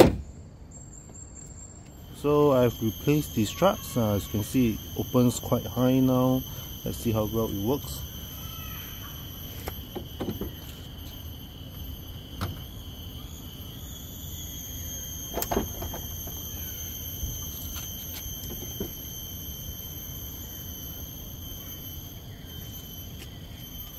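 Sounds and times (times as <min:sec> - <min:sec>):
high-pitched insect drone: 0:00.3 - 0:23.9.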